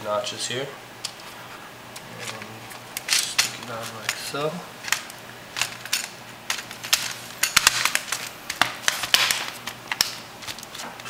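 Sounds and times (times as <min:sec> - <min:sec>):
hands rubbing plastic: 0:02.0 - 0:11.0.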